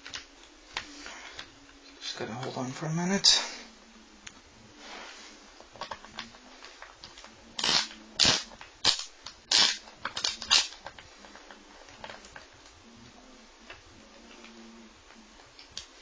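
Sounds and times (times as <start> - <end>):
faint handling sounds: 0.0 - 16.0.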